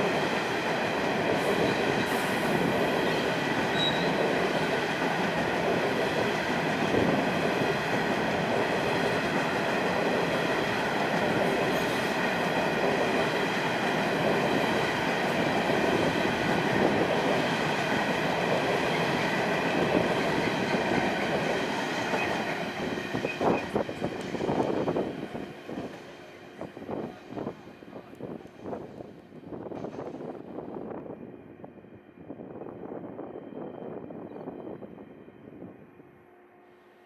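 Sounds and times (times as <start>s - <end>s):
train wheels rumbling: 0.0s - 30.9s.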